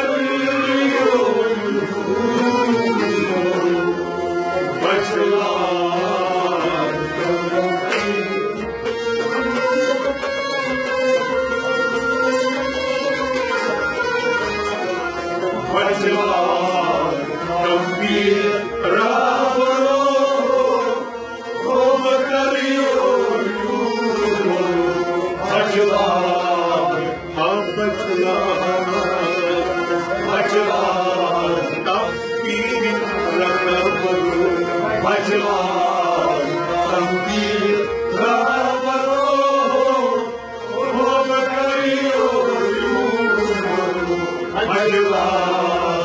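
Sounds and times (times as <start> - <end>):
person singing devotional melody: 0.0 - 9.3, 12.4 - 46.0
sustained instrumental drone: 0.0 - 46.0.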